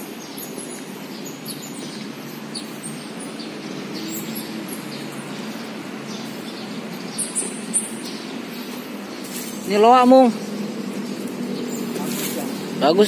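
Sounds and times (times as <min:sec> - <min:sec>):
outdoor background rush: 0:00.0 - 0:13.0
small birds chirping: 0:00.0 - 0:13.0.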